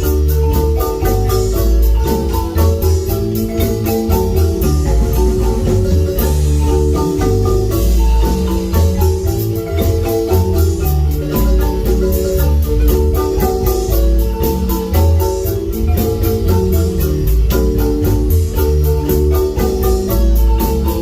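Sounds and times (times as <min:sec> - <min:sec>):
marimba band playing: 0:00.0 - 0:21.0.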